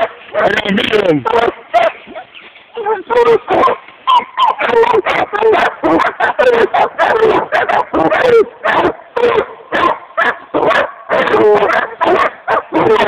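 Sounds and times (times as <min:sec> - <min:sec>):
dogs barking fast: 0:00.0 - 0:13.0.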